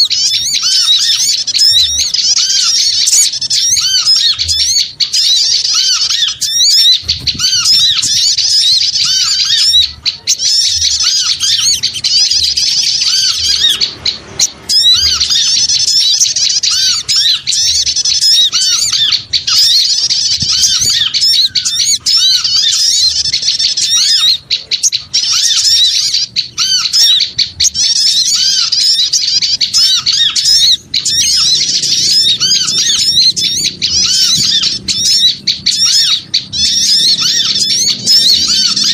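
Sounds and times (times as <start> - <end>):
small birds chattering: 0.0 - 38.9.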